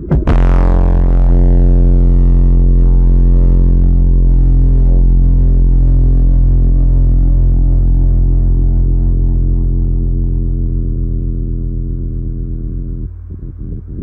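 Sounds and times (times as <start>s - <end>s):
deep buzzy bass drone: 0.0s - 14.0s.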